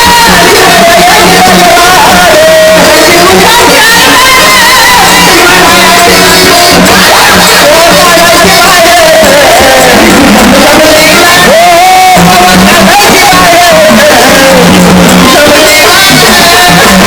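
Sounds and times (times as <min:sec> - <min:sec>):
devotional folk music over loudspeakers: 0:00.0 - 0:17.0
person singing a wavering melody: 0:00.0 - 0:17.0.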